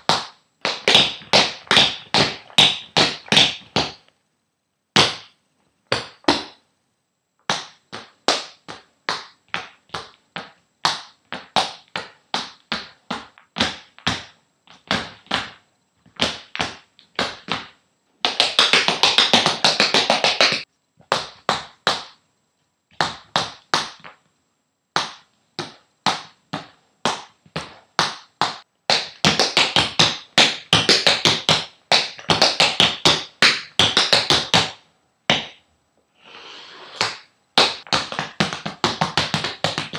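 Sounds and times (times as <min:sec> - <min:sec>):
tap shoes on wooden floor: 0:00.0 - 0:04.0, 0:05.9 - 0:06.6, 0:07.5 - 0:22.2, 0:22.9 - 0:24.2, 0:25.0 - 0:35.6, 0:37.0 - 0:39.9.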